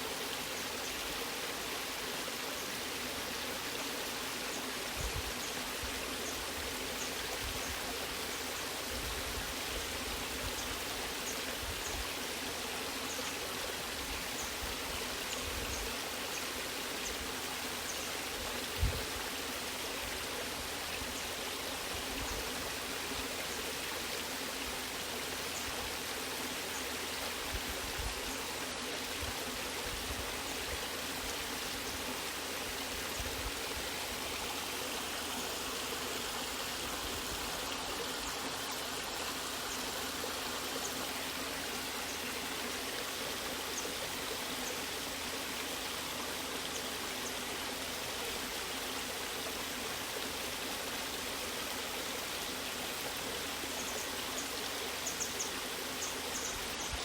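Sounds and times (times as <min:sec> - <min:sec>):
water rushing and splashing: 0:00.0 - 0:57.0.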